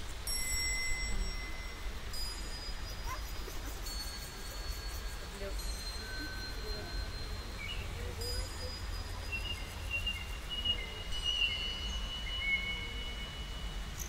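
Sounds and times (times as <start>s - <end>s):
low street rumble: 0.0s - 14.0s
thin whistles: 0.0s - 14.0s
faint bird chirps: 2.7s - 14.0s.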